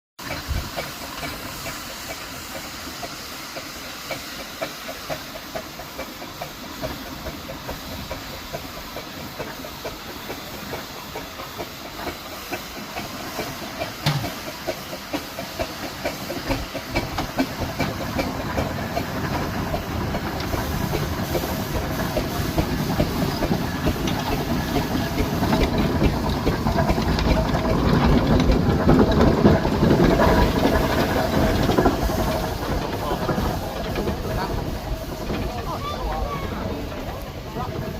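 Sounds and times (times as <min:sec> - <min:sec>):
steam traction engine running: 0:00.2 - 0:37.9.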